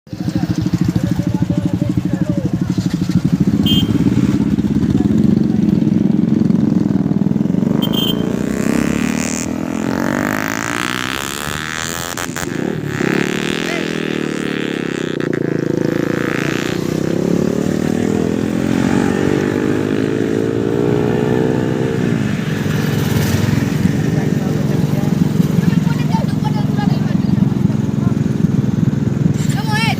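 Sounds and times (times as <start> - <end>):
motorcycle engine running: 0.1 - 29.9.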